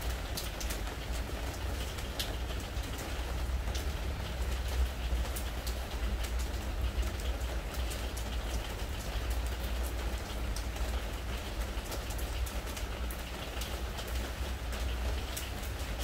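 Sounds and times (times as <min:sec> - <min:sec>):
rain pattering on wooden deck: 0:00.0 - 0:16.0.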